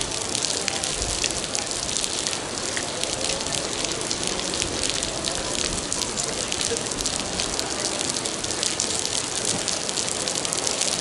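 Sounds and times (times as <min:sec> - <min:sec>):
heavy rain falling: 0:00.0 - 0:11.0
raindrops ticking on microphone: 0:00.0 - 0:11.0.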